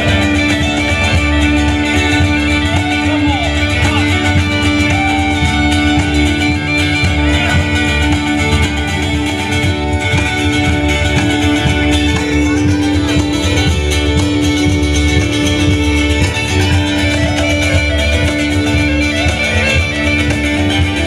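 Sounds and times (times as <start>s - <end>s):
cajon beat: 0.0s - 21.0s
plucked guitar: 0.0s - 21.0s
uilleann pipes melody and drone: 0.0s - 21.0s
upright bass: 0.0s - 21.0s.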